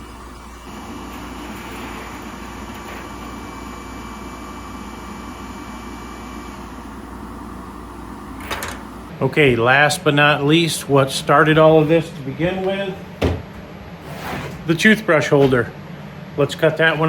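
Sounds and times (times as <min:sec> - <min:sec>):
machine motor and fans whirring: 0:00.0 - 0:17.0.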